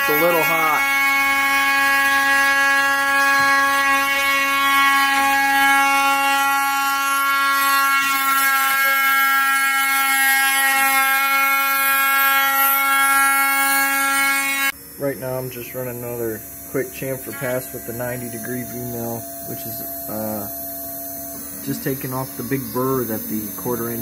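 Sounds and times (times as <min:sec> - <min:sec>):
high-pitched machine spindle whine: 0:00.0 - 0:24.0.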